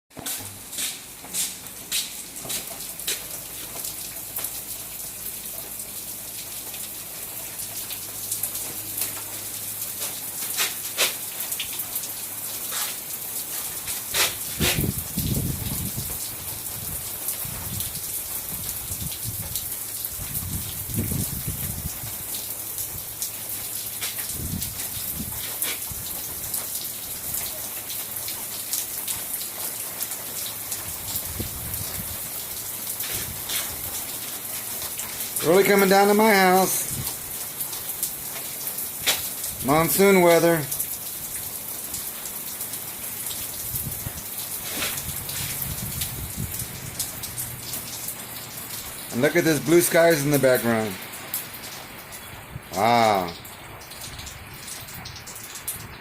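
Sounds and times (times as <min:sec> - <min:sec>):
rain hissing: 0:00.1 - 0:56.0
raindrops striking a surface: 0:00.1 - 0:56.0.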